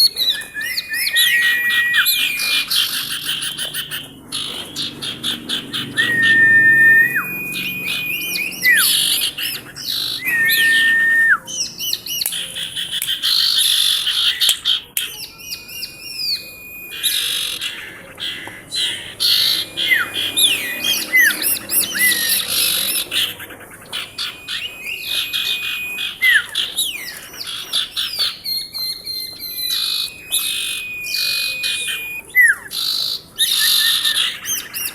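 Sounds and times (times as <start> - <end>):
bird whistling and chattering: 0.0 - 34.9.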